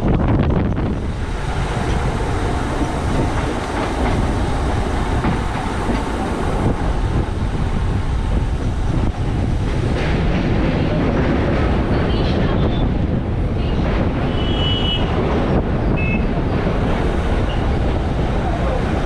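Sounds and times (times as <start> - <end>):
train running at speed: 0.0 - 19.0
wheel and rail noise: 0.0 - 19.0.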